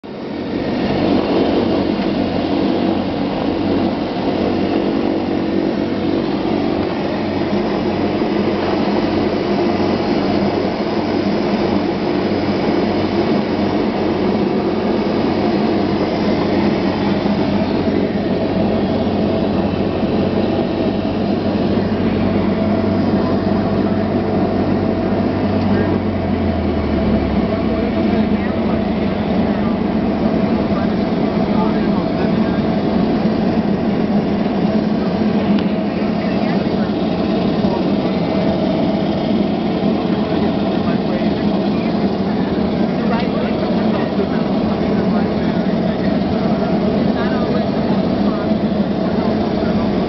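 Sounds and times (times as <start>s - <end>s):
propeller hum: 0.0s - 50.0s
turboprop engines running: 0.0s - 50.0s.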